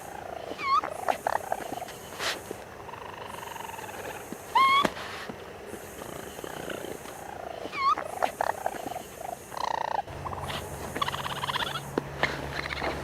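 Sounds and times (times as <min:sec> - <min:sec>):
raccoon purring trill: 0:00.0 - 0:04.9, 0:05.7 - 0:11.9, 0:12.5 - 0:13.0
raccoon chirping: 0:00.0 - 0:05.0, 0:05.7 - 0:13.0.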